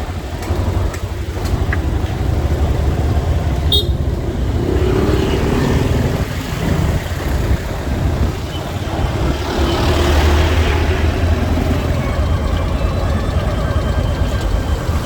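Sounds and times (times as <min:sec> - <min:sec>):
motorcycle engine rumble: 0:00.0 - 0:15.0
surrounding traffic: 0:00.0 - 0:15.0.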